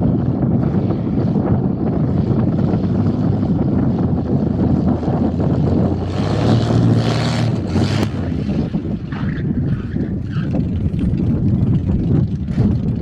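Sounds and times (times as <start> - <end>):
airplane engine and propeller drone: 0.0 - 13.0
wind rumble on microphone: 0.0 - 13.0.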